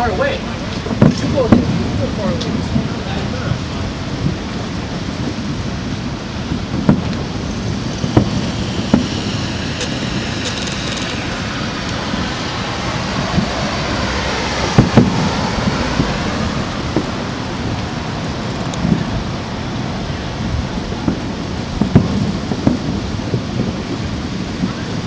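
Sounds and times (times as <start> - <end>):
fireworks bangs: 0.0 - 25.0
fireworks crackling: 0.0 - 25.0
fireworks rumbling: 0.0 - 25.0.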